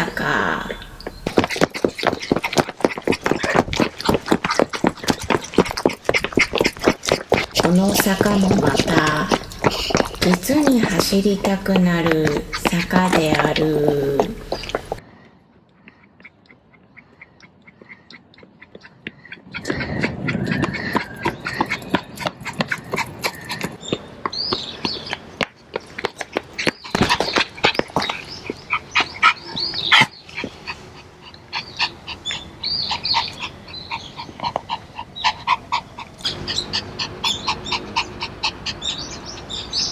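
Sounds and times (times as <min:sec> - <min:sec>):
small birds chirping: 0:00.0 - 0:39.9
puppy panting: 0:01.2 - 0:15.0, 0:15.7 - 0:39.9.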